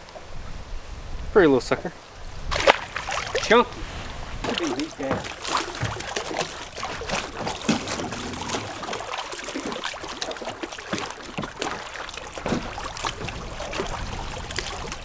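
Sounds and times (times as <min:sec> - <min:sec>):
water lapping against boat hull: 0:02.5 - 0:15.0.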